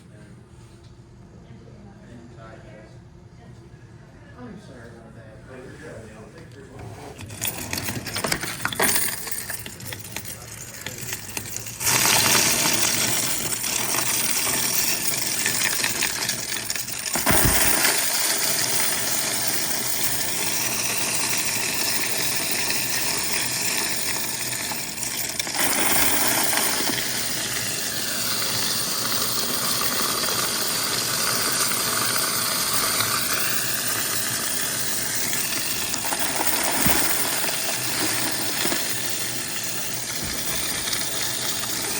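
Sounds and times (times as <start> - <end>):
coins clinking: 6.9 - 41.9
coin-counting machine clattering: 7.2 - 41.9.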